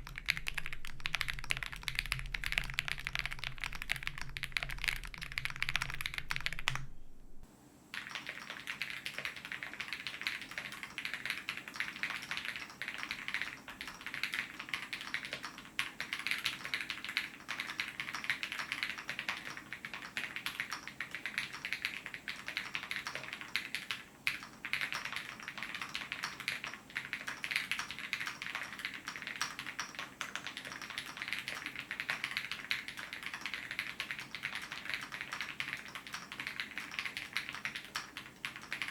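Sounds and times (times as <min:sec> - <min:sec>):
mechanical keyboard typing: 0:00.0 - 0:06.9, 0:08.0 - 0:38.9.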